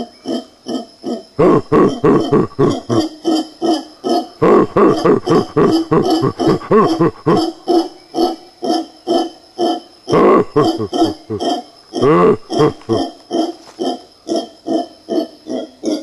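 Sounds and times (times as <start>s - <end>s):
howler monkeys roaring: 0.0s - 16.0s.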